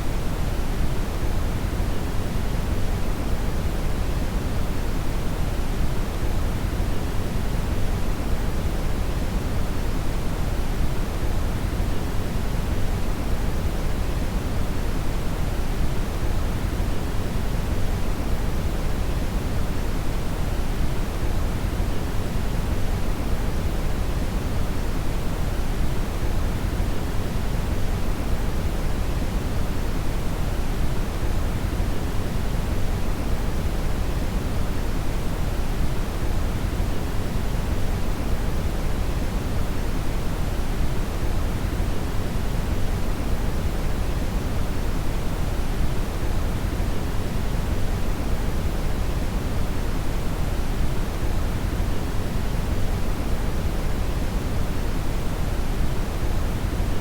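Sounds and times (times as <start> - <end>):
brown noise hiss: 0.0 - 57.0.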